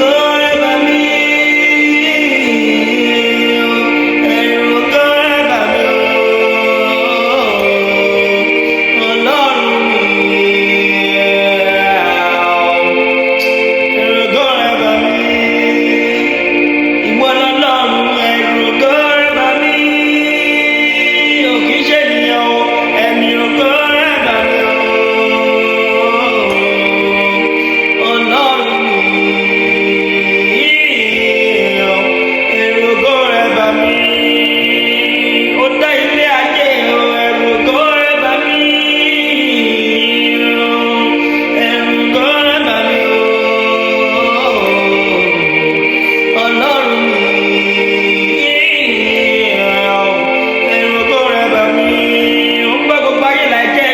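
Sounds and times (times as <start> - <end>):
organ-like keyboard chords: 0.0 - 53.9
person singing: 0.0 - 53.9.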